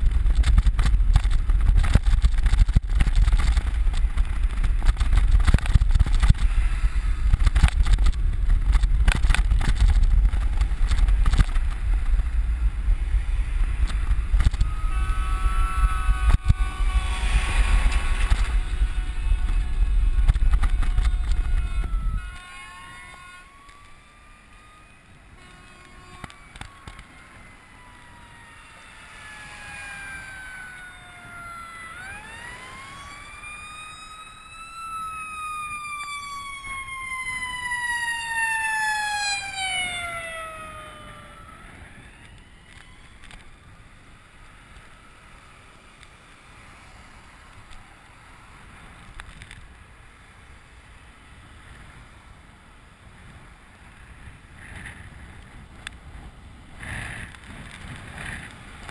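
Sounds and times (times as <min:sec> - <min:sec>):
wind rumble on camera: 0:00.0 - 0:58.9
emergency siren wailing: 0:01.2 - 0:48.7.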